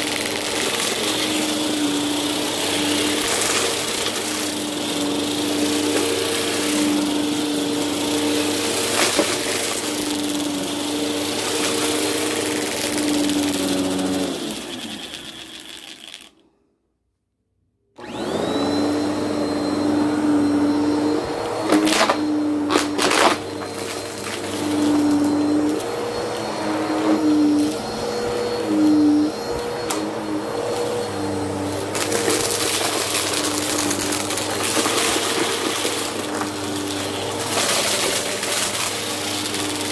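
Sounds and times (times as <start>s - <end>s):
vacuum cleaner motor humming: 0.0s - 16.5s, 18.0s - 39.9s.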